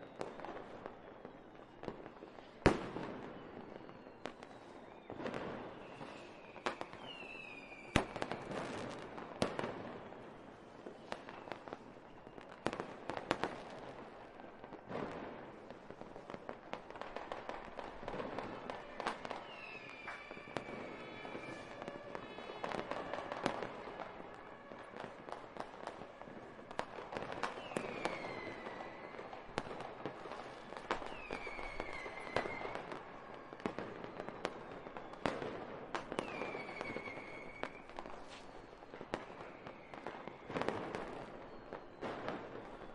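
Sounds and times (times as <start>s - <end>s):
falling firework whistles: 0.0s - 42.9s
firework bangs and crackling: 0.0s - 42.9s.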